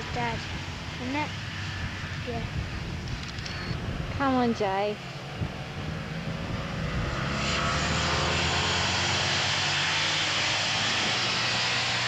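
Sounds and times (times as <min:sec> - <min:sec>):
motorcycle engines drone: 0:00.0 - 0:12.0.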